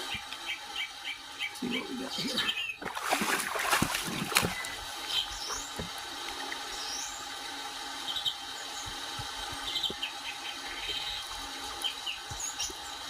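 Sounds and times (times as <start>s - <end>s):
birds chirping: 0.0s - 13.0s
steady hum: 0.0s - 13.0s.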